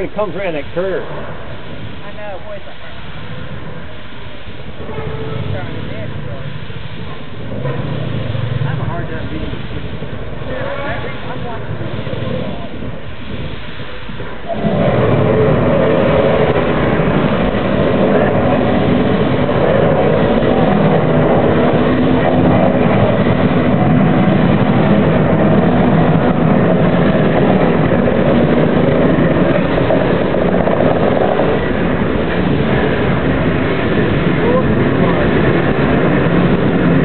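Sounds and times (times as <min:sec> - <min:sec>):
steam locomotive rush and rumble: 0:00.0 - 0:37.0.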